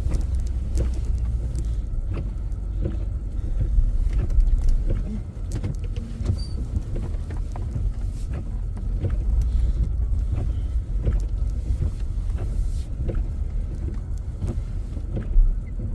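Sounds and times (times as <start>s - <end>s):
light clicks and knocks: 0.0s - 15.9s
truck rumbling from inside cab: 0.0s - 15.9s.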